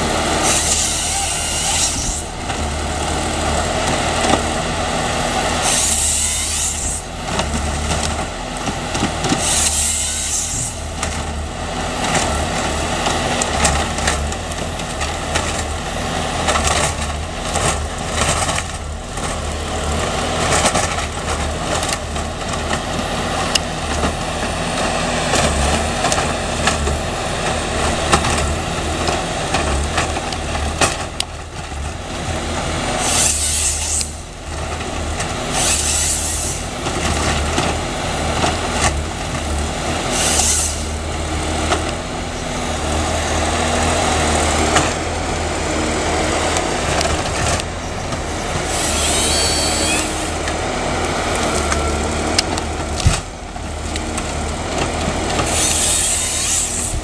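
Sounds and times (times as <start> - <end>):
diesel engine running: 0.0 - 57.0
harvester head processing logs: 0.0 - 57.0.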